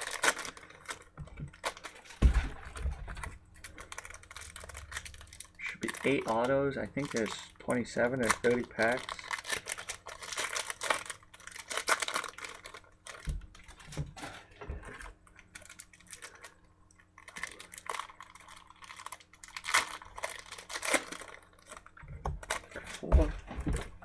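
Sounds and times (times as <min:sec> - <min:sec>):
card pack wrappers crinkling: 0:00.0 - 0:24.0.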